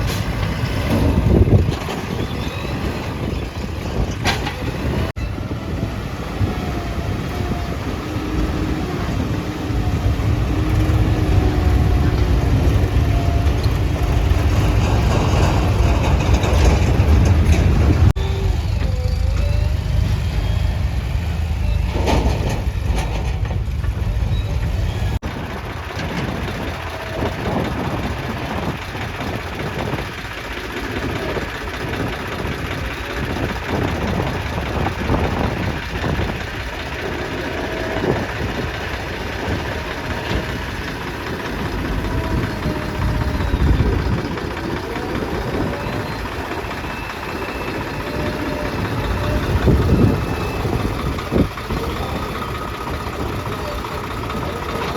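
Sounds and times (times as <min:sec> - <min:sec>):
heavy diesel engines rumbling: 0:00.0 - 0:54.9.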